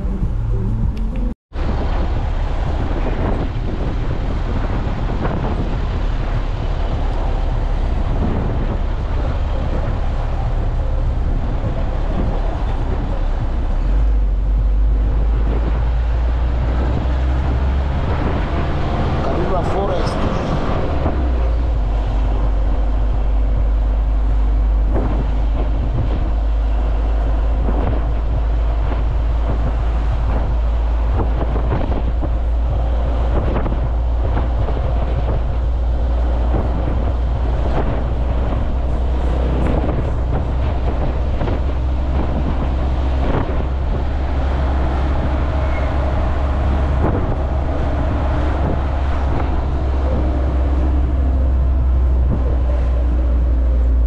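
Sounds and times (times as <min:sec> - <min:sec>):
road and wind noise: 0:00.0 - 0:54.0
vehicle rumble on road: 0:00.0 - 0:54.0.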